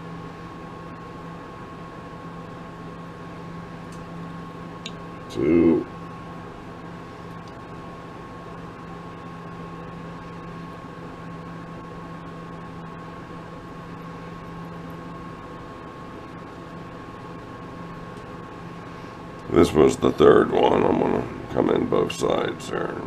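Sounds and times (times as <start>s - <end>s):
faint high whine: 2.1s - 23.0s.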